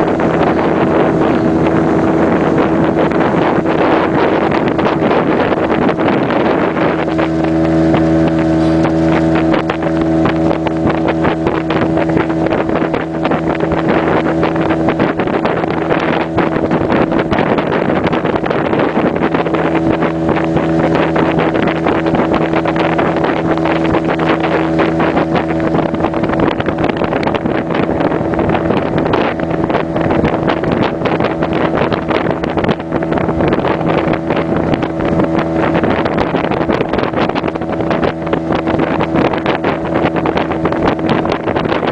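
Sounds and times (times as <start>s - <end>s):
motorboat engine running: 0.0s - 41.9s
rushing water: 0.0s - 41.9s
wind buffeting microphone: 0.0s - 41.9s.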